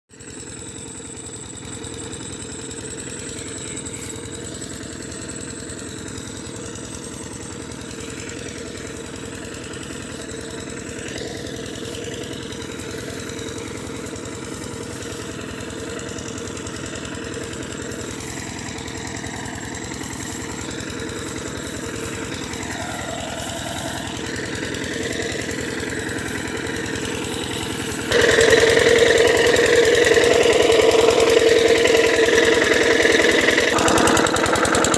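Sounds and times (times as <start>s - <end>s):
pump engine running: 0.1s - 34.9s.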